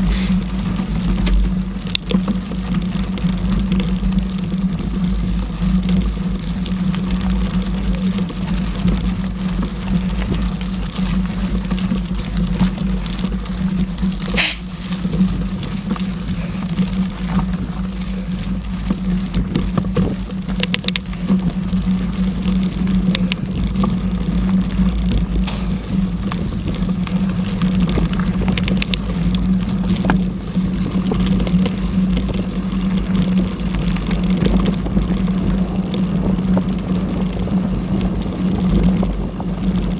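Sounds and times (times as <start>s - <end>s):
bike clicks and rattles: 0.0s - 39.9s
bike tyres rolling on dirt: 0.0s - 39.9s
low hum: 0.0s - 39.9s
wind noise on microphone: 0.0s - 39.9s.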